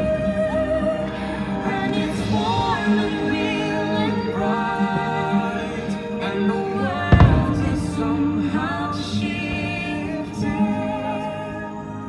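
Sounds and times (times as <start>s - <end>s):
musical backing: 0.0s - 12.0s
voices singing with vibrato: 0.0s - 12.0s.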